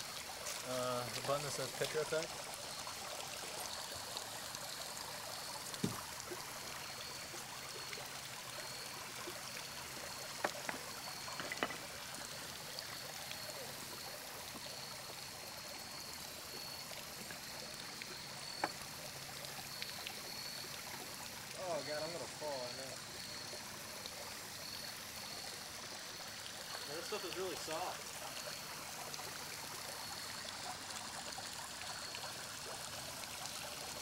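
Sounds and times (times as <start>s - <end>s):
creek water running over rocks: 0.0s - 34.0s.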